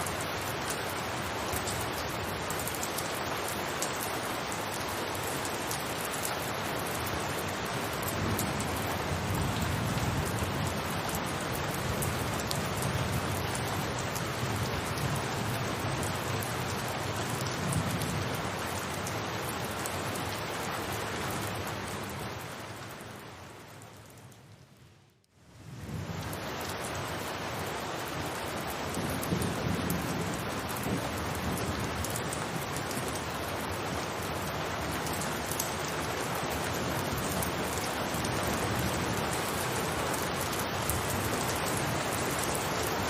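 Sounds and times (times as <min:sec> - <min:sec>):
rain on a roof: 0:00.0 - 0:43.0.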